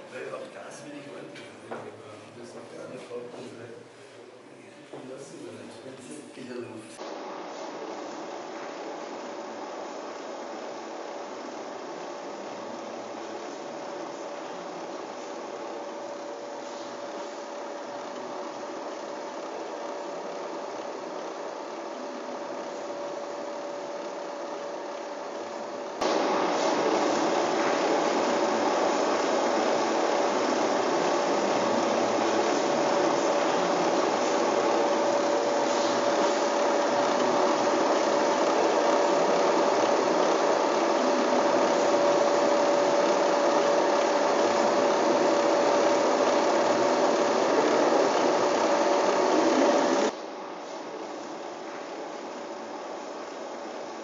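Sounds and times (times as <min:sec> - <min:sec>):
film projector running: 0:00.0 - 0:54.0.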